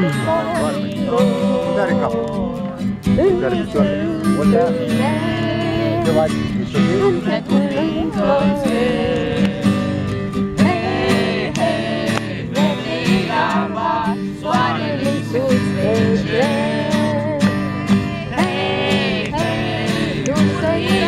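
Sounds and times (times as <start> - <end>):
acoustic guitar strumming: 0.0 - 21.0
people singing: 0.0 - 21.0.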